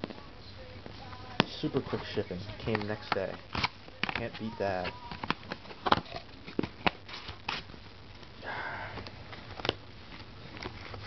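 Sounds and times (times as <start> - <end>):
packaging clicks and rustles: 1.4 - 8.3, 8.9 - 11.0.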